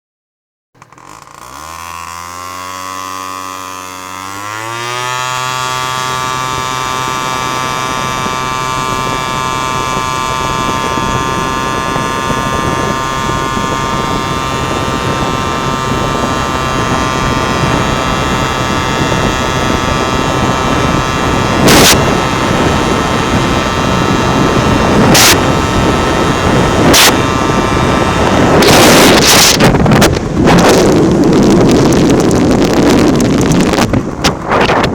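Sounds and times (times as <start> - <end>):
scooter engine revving: 0.8 - 34.9
wind rush: 5.0 - 34.9.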